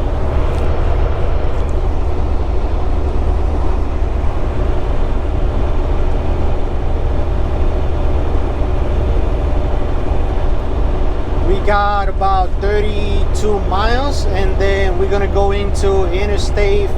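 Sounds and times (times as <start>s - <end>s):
road and tyre noise: 0.0s - 16.9s
truck engine low drone: 0.0s - 16.9s.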